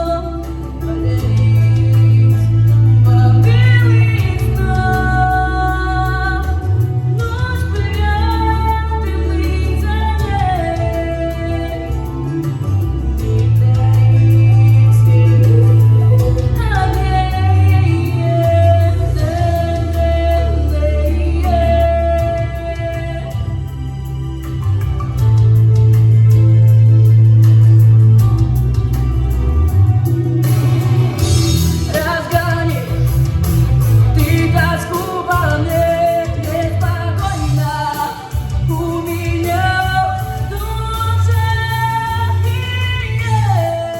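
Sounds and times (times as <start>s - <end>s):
woman singing: 0.0s - 24.4s, 30.7s - 43.9s
pop backing track with beat: 0.0s - 43.9s.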